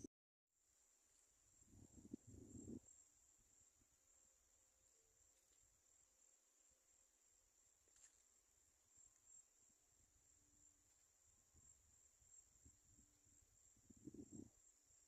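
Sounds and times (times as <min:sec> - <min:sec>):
crickets chirring: 0:00.7 - 0:15.0.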